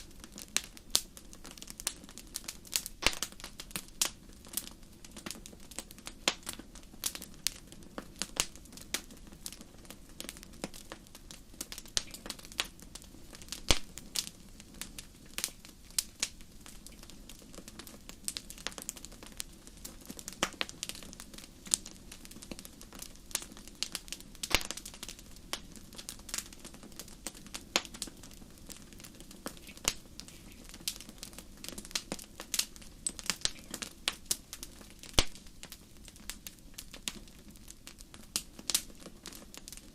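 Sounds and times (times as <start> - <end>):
campfire crackling: 0.0 - 39.9
faint low background noise: 0.0 - 39.9.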